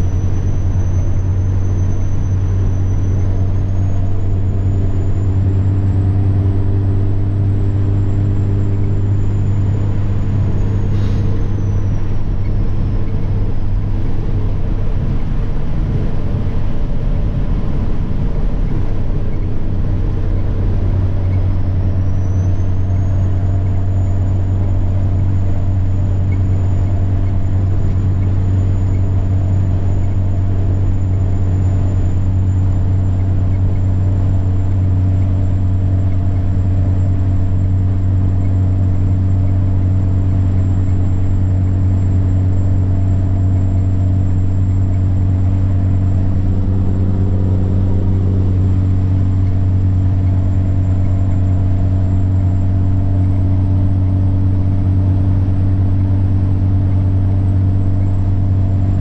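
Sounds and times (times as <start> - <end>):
diesel truck engine droning: 0.0 - 59.0
turbocharger whine: 0.0 - 59.0.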